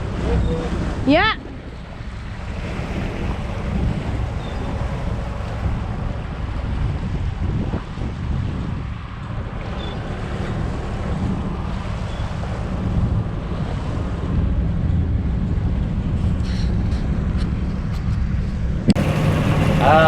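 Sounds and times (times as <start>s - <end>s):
boat engine droning: 0.0s - 20.0s
wind buffeting microphone: 0.0s - 20.0s.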